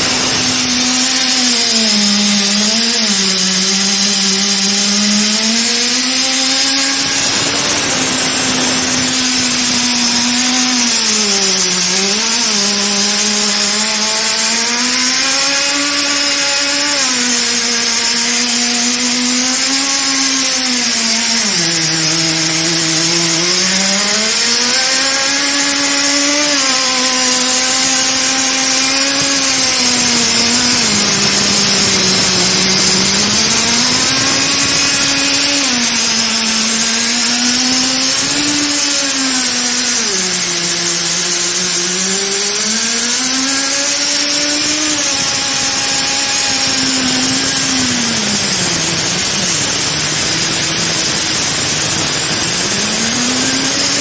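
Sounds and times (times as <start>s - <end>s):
grinding machine motor whine: 0.0s - 54.0s.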